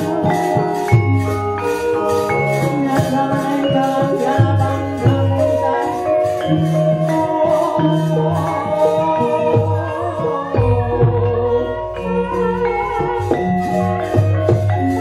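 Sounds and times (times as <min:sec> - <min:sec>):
gamelan orchestra playing: 0:00.0 - 0:15.0.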